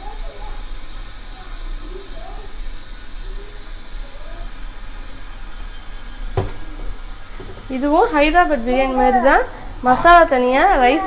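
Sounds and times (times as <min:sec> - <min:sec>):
stove hissing: 0:00.0 - 0:11.0.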